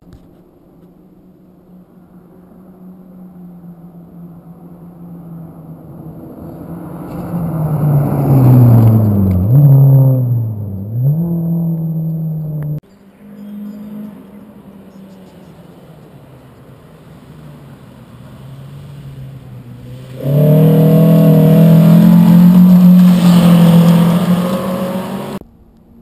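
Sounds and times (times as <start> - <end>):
rally car engine: 0.0 - 25.6.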